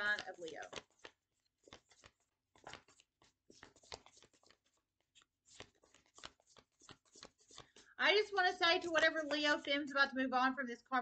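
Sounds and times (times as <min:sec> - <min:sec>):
cards being shuffled: 0:00.0 - 0:08.0, 0:08.6 - 0:09.8.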